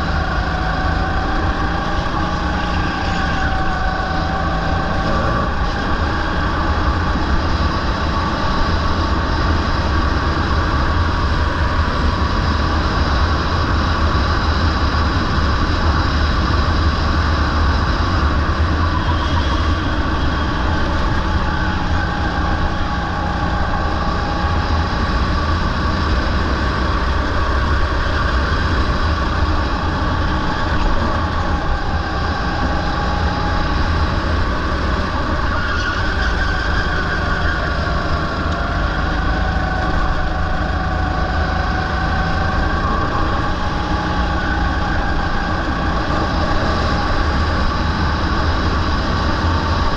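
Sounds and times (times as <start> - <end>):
go-kart engine racing: 0.0 - 49.9.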